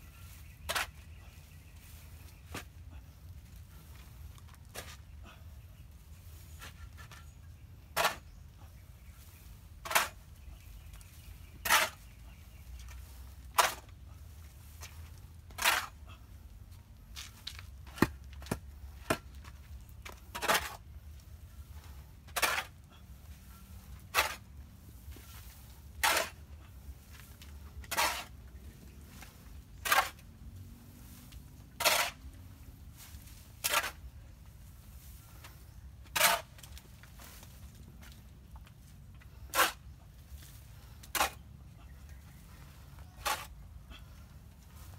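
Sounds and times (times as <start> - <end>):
shovel scraping compost: 0.0 - 16.4, 17.0 - 44.9.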